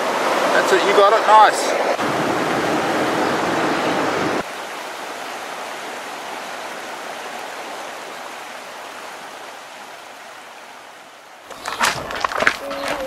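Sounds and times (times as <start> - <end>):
water rushing along shoreline: 0.0 - 13.0.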